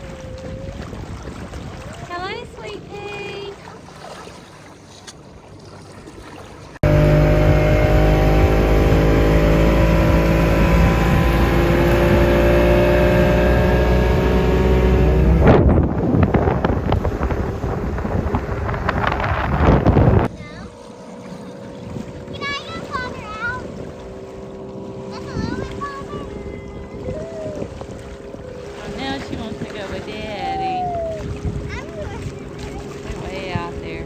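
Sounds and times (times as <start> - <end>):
motorboat engine drone: 0.0 - 34.0
rushing wind and water: 0.0 - 34.0.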